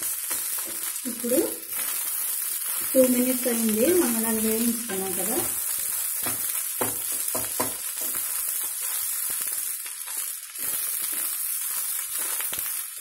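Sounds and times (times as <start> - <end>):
rice sizzling in a pan: 0.0 - 13.0.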